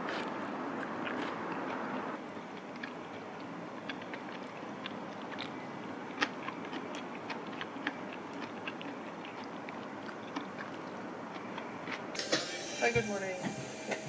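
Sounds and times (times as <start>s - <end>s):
person chewing noodles: 0.0s - 12.2s.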